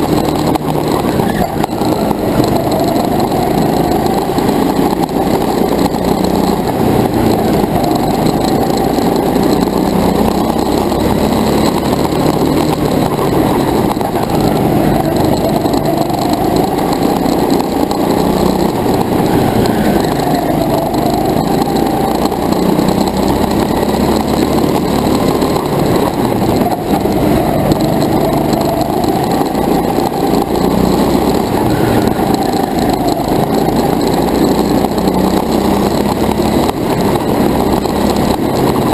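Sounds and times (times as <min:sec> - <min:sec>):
go-kart motor revving: 0:00.0 - 0:38.9.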